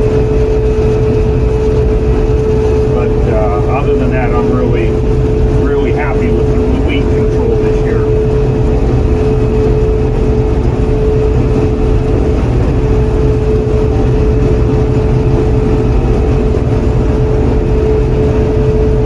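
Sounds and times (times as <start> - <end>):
combine engine rumble: 0.0 - 19.0
steady machine whine: 0.0 - 19.0.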